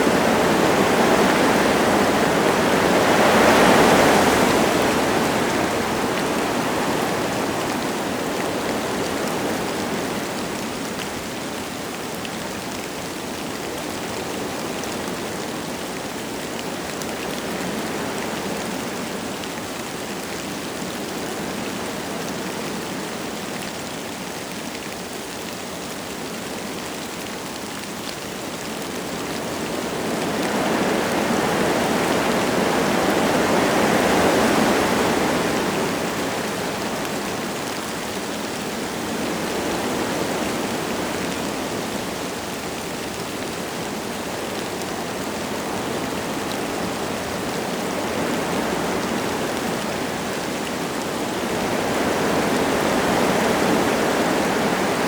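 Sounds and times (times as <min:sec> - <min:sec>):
light rain falling: 0:00.0 - 0:55.0
wind gusting through trees: 0:00.0 - 0:55.0.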